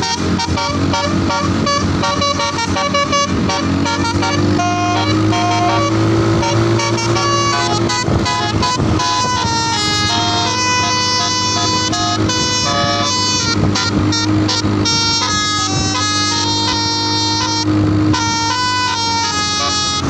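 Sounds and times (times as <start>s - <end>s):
bus horns playing rapid melody: 0.0s - 20.0s.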